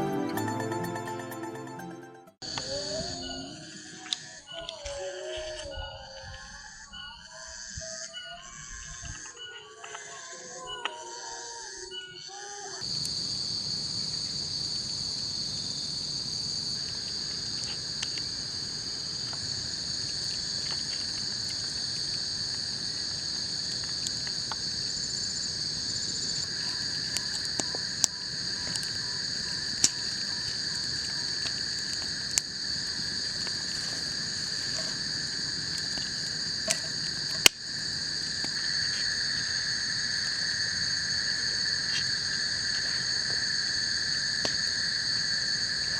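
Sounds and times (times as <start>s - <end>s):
insects droning: 2.4s - 45.9s
lower-pitched insect drone: 2.4s - 45.9s.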